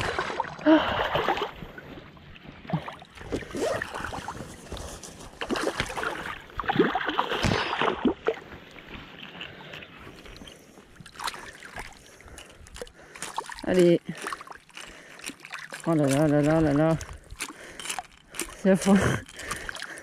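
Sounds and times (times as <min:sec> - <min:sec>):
water splashing: 0:00.0 - 0:20.0.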